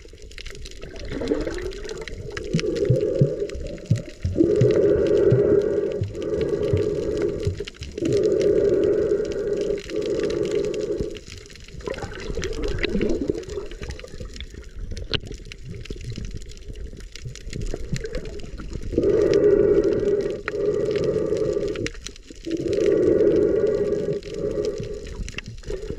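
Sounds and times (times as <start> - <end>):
faint underwater crackles and clicks: 0.0 - 25.9
breathing through snorkel underwater: 0.8 - 14.6, 17.7 - 25.9.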